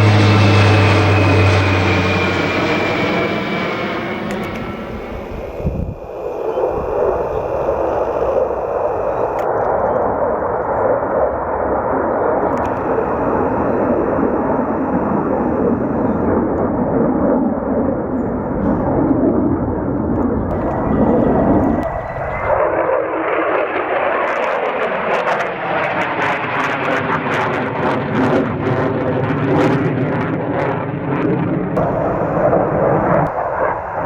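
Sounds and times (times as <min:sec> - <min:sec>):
military plane engine passing: 0:00.0 - 0:34.0.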